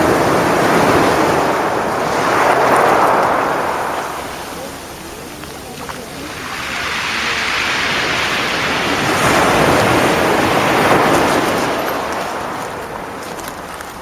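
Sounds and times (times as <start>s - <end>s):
waves on shingle beach: 0.0s - 14.0s.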